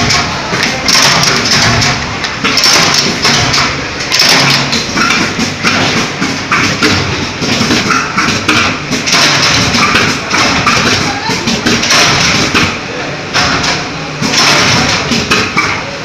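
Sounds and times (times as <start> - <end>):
machine thumps and knocks: 0.0 - 15.8
steady machine noise: 0.0 - 16.0.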